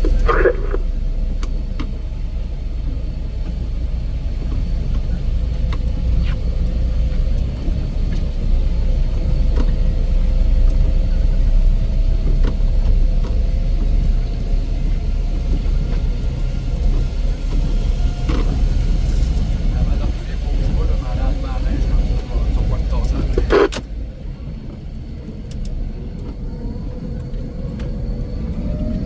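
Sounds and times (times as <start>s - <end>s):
heavy machine engine rumbling: 0.0s - 29.0s.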